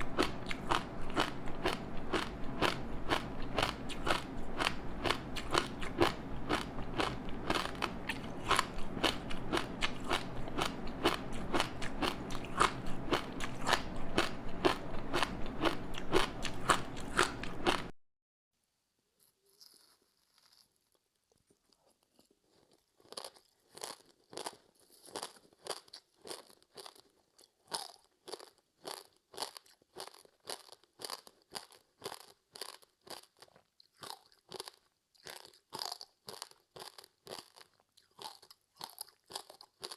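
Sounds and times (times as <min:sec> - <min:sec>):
crunching crispy snack: 0:00.0 - 0:17.9, 0:19.2 - 0:39.9
rhythmic chewing: 0:00.0 - 0:17.9, 0:19.4 - 0:39.9.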